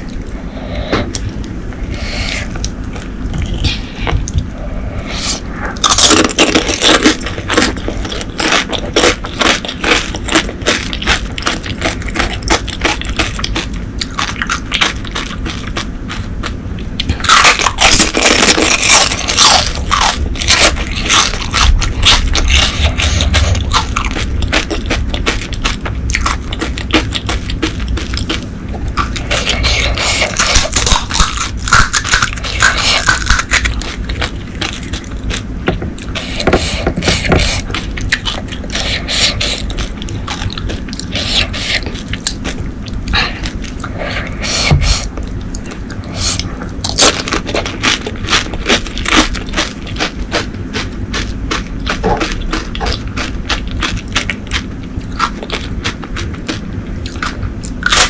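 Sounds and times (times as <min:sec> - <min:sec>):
crunching and wet chewing: 0:00.0 - 0:58.0.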